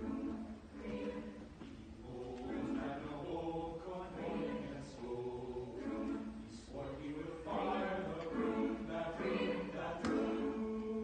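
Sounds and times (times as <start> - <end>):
chamber choir singing: 0.0 - 11.0.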